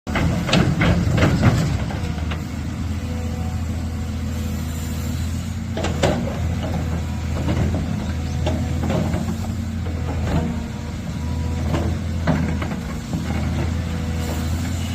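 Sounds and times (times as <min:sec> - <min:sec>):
heavy machine engine idling: 0:00.1 - 0:14.9.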